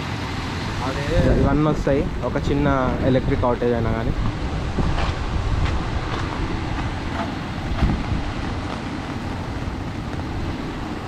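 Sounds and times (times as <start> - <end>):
car rumbling on the move: 0.0 - 11.0
road and wind noise: 0.0 - 11.0.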